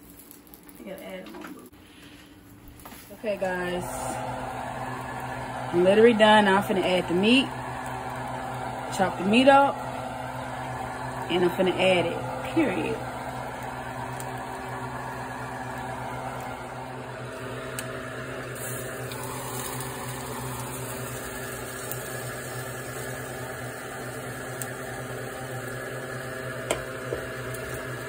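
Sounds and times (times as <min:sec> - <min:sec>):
electric machine hum: 0:00.0 - 0:28.0.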